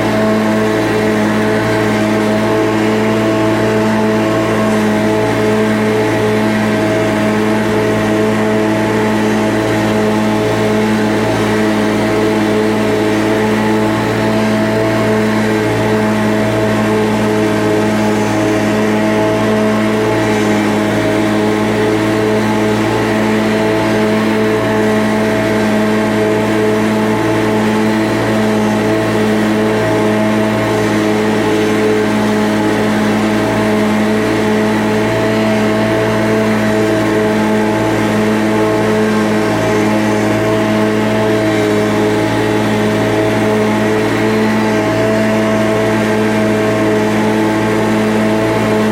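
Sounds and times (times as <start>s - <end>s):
engine droning steadily: 0.0s - 48.9s.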